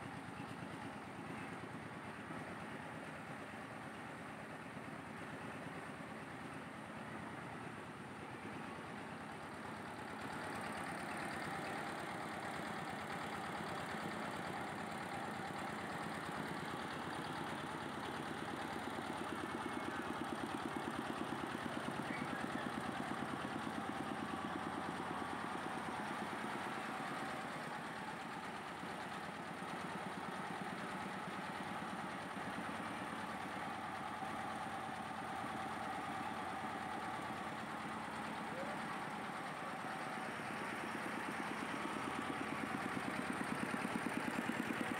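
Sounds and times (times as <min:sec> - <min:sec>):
rice mill engine running: 0:00.0 - 0:44.9.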